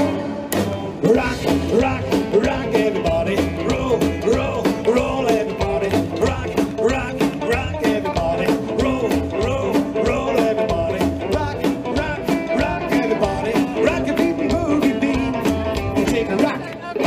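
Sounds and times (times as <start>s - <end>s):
rockabilly band playing: 0.0s - 17.0s.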